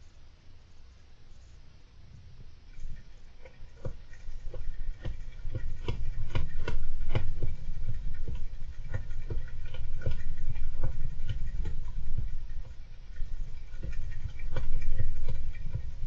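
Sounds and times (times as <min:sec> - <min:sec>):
steady low rumble: 0:00.0 - 0:16.0
hamster scrabbling: 0:02.1 - 0:16.0.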